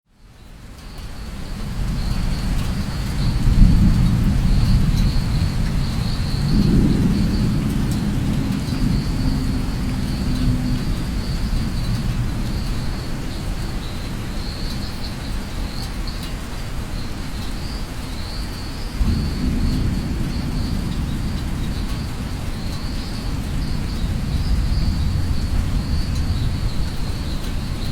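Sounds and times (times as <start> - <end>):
steady rain: 0.1 - 27.9
low thunder rumbling: 1.3 - 15.8, 18.8 - 27.9.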